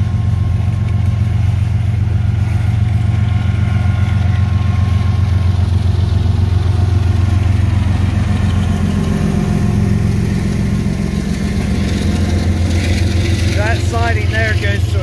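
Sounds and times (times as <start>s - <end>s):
boxcars rolling over rails: 0.0s - 15.0s
diesel locomotive engine rumble: 0.0s - 15.0s.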